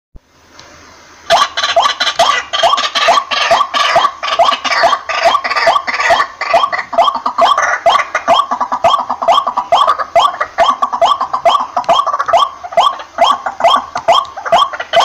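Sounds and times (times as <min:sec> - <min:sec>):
waterhen calling harsh notes: 0:01.3 - 0:15.0.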